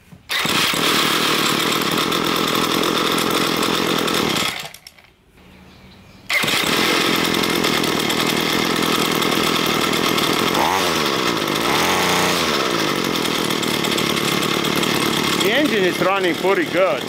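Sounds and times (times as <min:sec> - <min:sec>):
string trimmer engine running: 0:00.3 - 0:05.0, 0:06.3 - 0:17.0.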